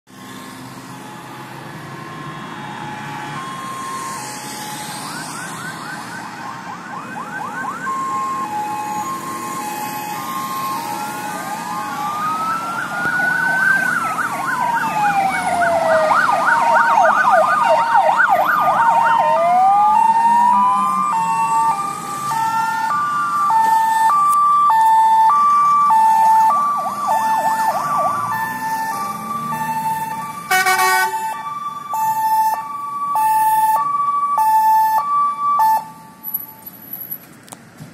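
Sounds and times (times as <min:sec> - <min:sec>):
rising and falling siren wails: 0:00.2 - 0:36.6
two-tone hi-lo siren: 0:00.2 - 0:36.7
fast yelping siren sweeps: 0:00.8 - 0:36.2.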